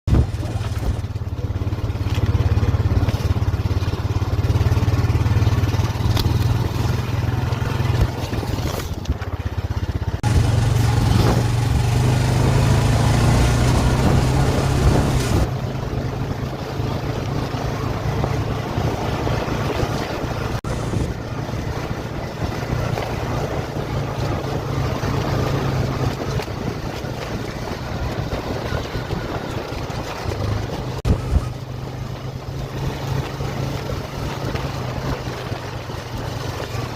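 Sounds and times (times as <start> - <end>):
vehicle engine drone: 0.0 - 36.9.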